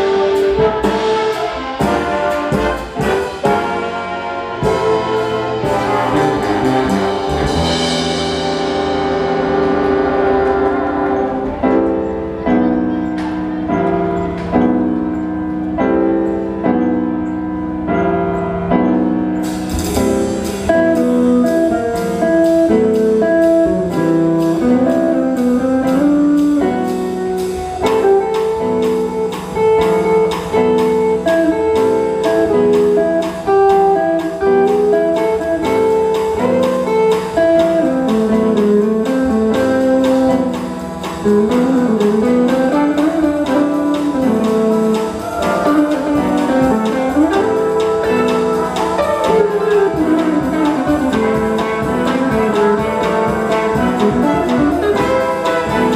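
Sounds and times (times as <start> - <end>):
drums steady beat: 0.0 - 11.0, 19.4 - 55.9
upright bass: 0.0 - 15.7, 18.5 - 55.9
big band bossa nova: 0.0 - 55.9
electric guitar lead: 0.0 - 55.9.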